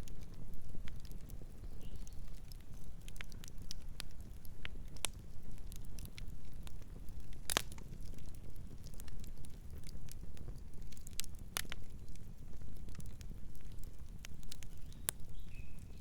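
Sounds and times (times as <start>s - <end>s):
campfire wood crackling: 0.0s - 16.0s
low fire rumble: 0.0s - 16.0s.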